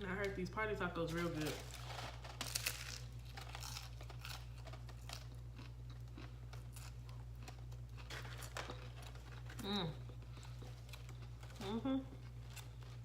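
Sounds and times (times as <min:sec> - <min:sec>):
person chewing crunchy food: 0:01.6 - 0:13.0.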